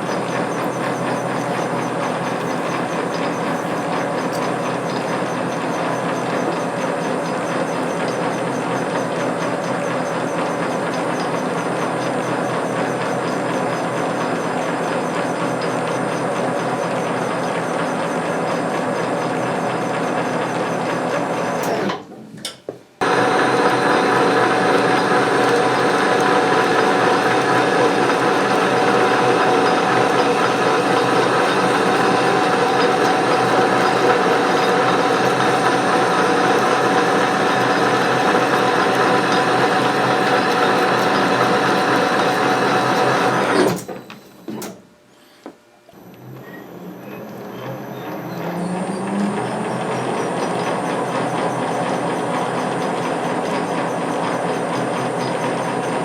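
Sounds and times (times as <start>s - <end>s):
metal lathe gear whine and clatter: 0.0s - 22.0s, 23.0s - 44.8s, 46.0s - 56.0s.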